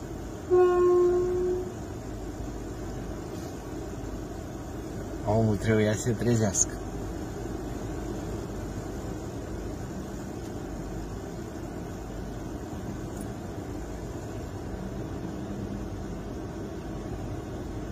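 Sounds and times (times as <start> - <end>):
low vehicle rumble in cabin: 0.0 - 17.9.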